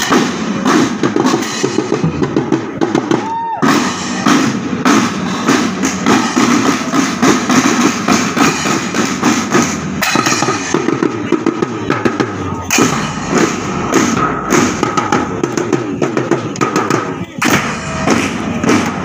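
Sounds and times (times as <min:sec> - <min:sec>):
snare drums playing: 0:00.0 - 0:19.0.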